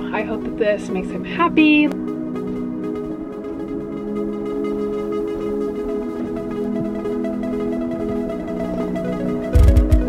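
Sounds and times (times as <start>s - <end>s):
calm ambient music: 0.0s - 10.0s.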